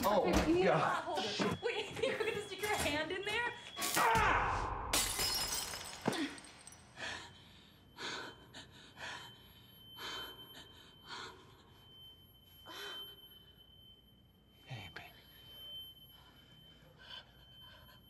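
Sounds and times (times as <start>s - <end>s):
high steady ringing tone: 0.0s - 18.0s.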